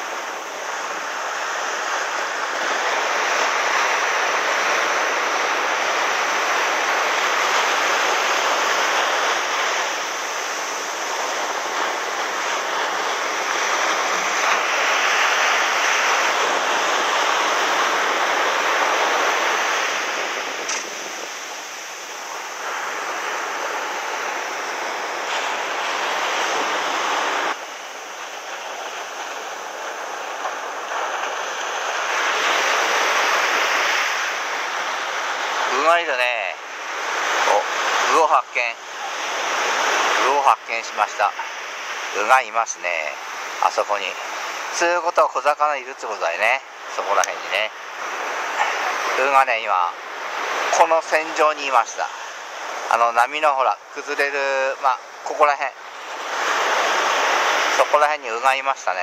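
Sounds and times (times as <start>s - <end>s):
waves breaking on beach: 0.0s - 59.0s.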